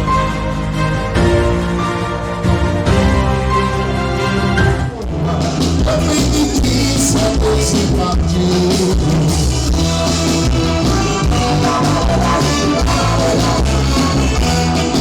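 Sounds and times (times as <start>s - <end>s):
band music with heavy bass: 0.0s - 15.0s.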